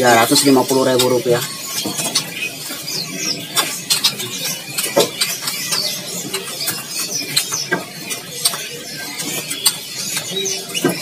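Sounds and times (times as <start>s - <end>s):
clicks and taps from cages: 0.0s - 11.0s
songbirds chirping: 0.0s - 11.0s.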